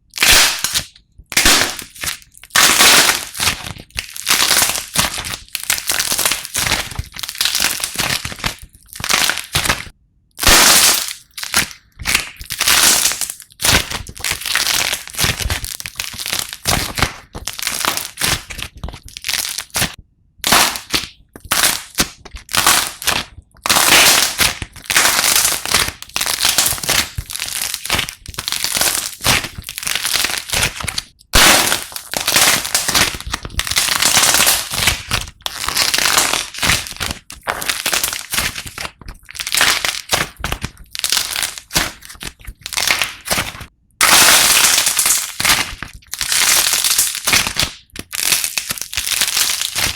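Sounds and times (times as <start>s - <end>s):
slime squeezed crackling and popping: 0.0s - 49.9s.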